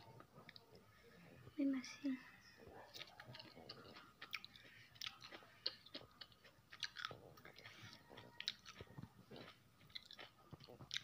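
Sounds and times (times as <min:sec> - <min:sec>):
person chewing food: 0:00.0 - 0:01.6, 0:02.6 - 0:11.0.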